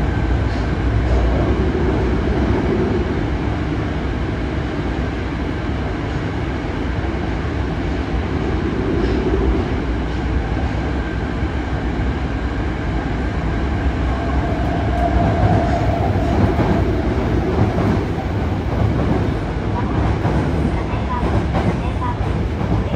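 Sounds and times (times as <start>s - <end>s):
train wheels rumbling on rail: 0.0s - 22.9s.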